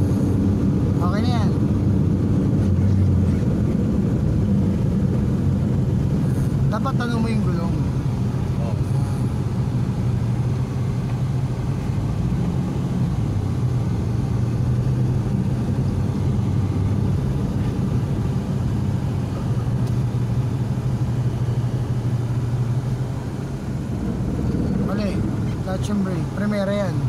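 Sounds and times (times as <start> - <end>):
car engine drone from inside: 0.0 - 27.0.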